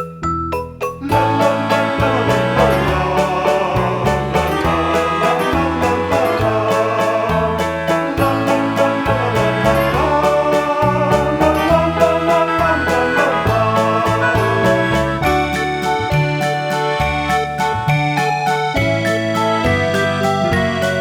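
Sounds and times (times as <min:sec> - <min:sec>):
music with beat and bass: 0:00.0 - 0:21.0
plucked notes: 0:00.0 - 0:21.0.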